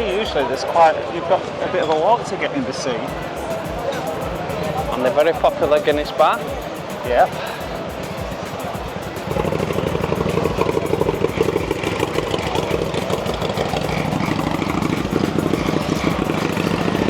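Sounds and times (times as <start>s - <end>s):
small engine running: 3.1s - 17.0s.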